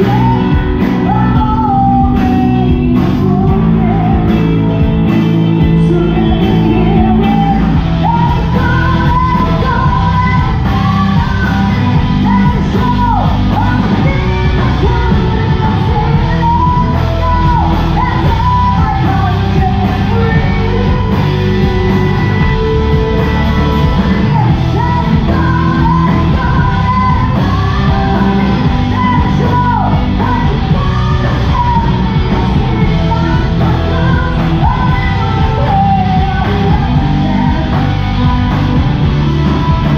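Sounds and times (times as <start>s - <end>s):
rock band playing: 0.0s - 39.9s
woman singing: 0.0s - 39.9s.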